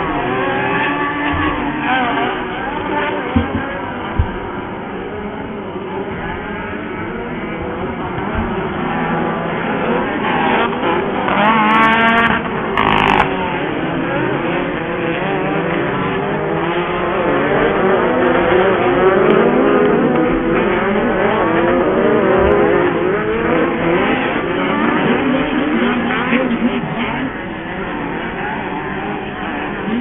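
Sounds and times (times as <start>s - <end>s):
nearby engine revving sharply: 0.0s - 30.0s
racing buggy engines: 0.0s - 30.0s.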